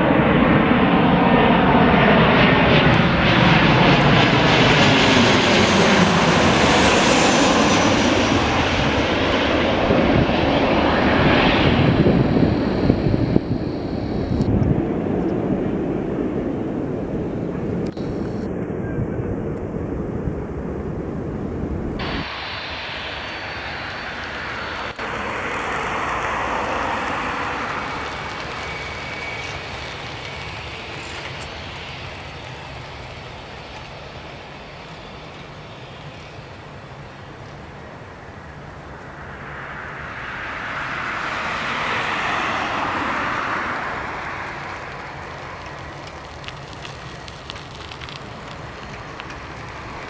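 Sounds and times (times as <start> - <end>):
jet engines on takeoff run: 0.0 - 50.0
jet engines rumbling on landing: 0.0 - 50.0.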